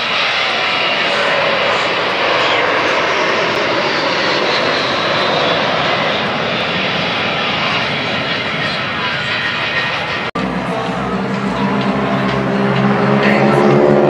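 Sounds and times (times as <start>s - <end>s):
jet aircraft flying past: 0.0s - 14.0s.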